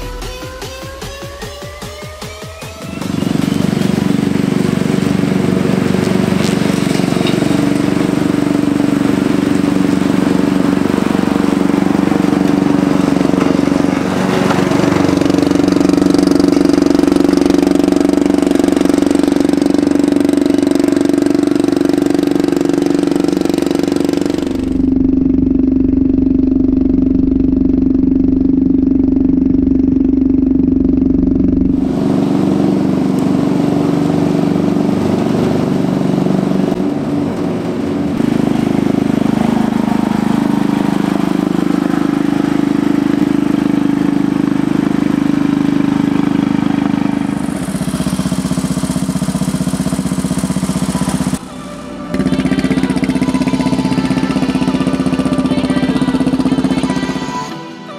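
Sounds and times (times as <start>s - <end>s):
riding mower engine running: 0.0s - 57.9s.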